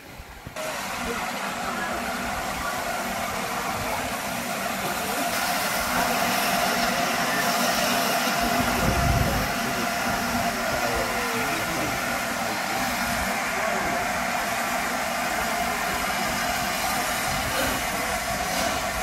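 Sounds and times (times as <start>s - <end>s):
steam train hissing: 0.0s - 19.0s.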